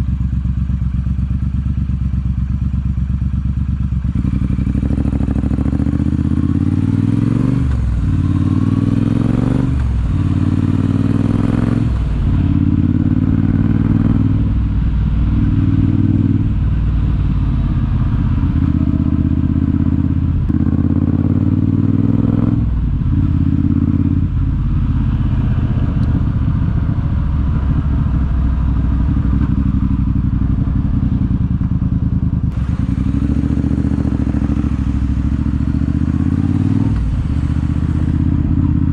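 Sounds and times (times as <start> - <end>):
motorcycle engine with gear changes: 0.0 - 38.9.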